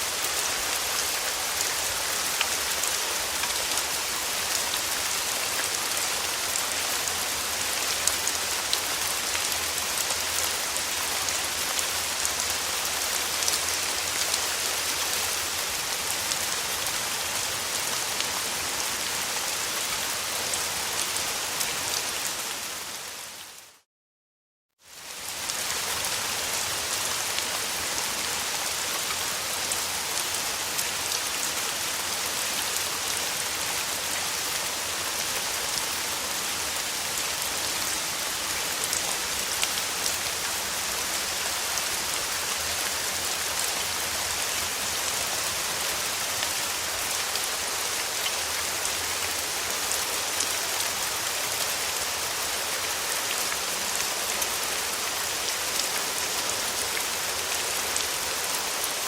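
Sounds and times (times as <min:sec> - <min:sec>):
steady rain hiss: 0:00.0 - 0:23.8, 0:24.8 - 0:59.0.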